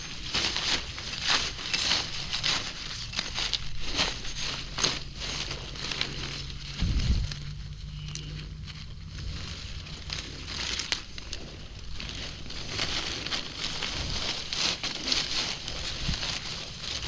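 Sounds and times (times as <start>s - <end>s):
dry leaves crackling underfoot: 0.0s - 17.0s.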